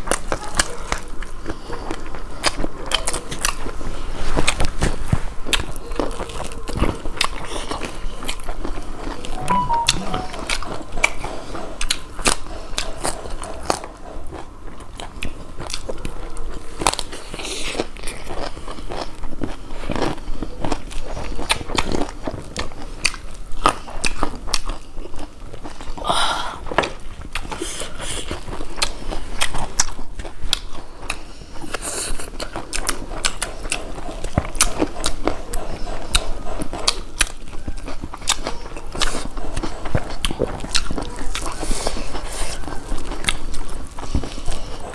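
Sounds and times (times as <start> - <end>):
chewing and lip smacks: 0.0 - 9.4, 11.8 - 26.0, 26.6 - 44.9.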